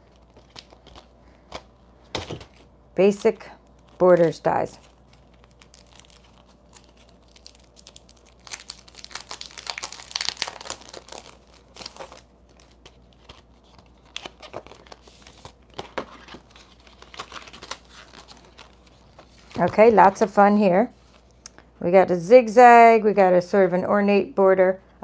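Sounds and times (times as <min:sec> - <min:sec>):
crinkly packaging rustling: 0:00.0 - 0:21.4.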